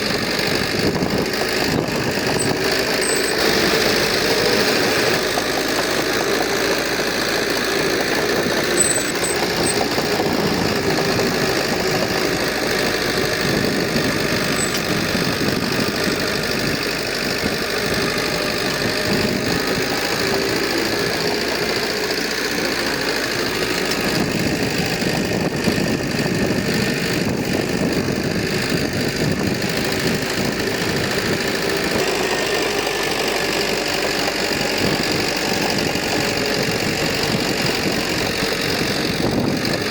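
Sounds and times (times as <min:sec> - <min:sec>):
diesel engine running roughly: 0:00.0 - 0:39.9.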